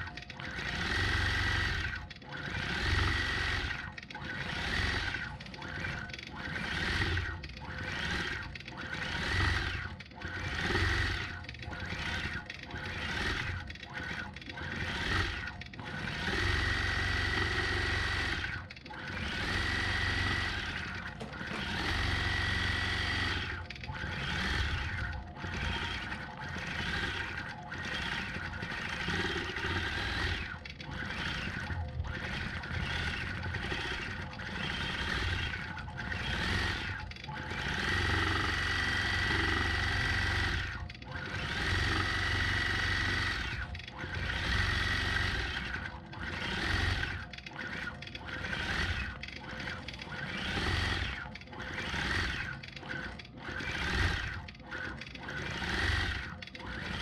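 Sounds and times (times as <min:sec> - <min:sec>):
quilting machine stitching: 0:00.0 - 0:57.0.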